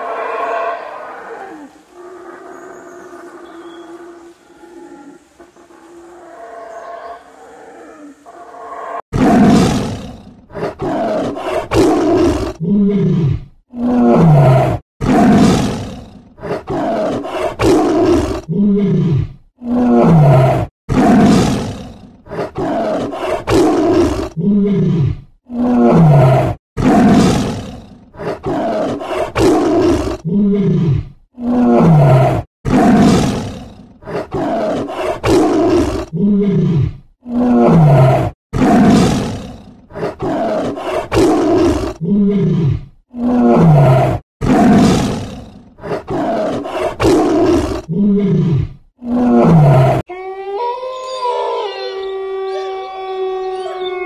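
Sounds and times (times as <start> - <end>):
tiger roaring: 0.0 - 5.2, 5.8 - 50.1.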